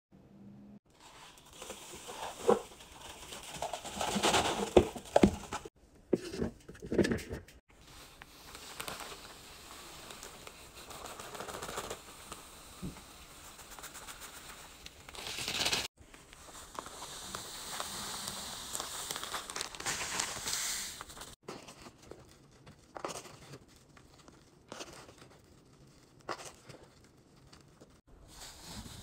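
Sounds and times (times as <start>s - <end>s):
crinkling: 0.9s - 5.7s, 6.3s - 29.0s.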